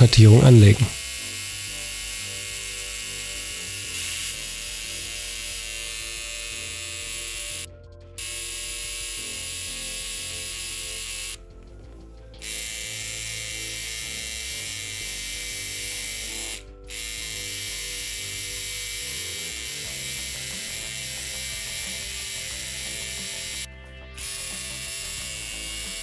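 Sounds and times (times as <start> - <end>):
background music: 0.0 - 26.0
tattoo machine buzzing: 0.0 - 26.0.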